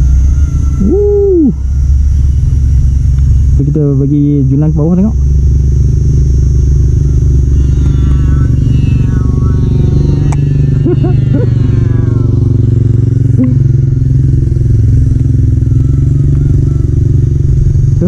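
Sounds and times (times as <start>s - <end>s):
toy jet motor whine: 0.0s - 5.2s, 5.9s - 18.0s
wind rumble on microphone: 0.0s - 18.0s.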